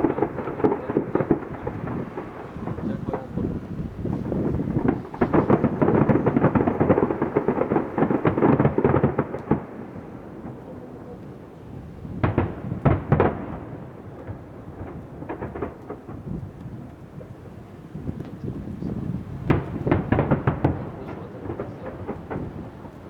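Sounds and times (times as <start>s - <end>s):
fireworks crackling bangs: 0.0s - 23.0s
loud firework booms: 0.0s - 23.0s.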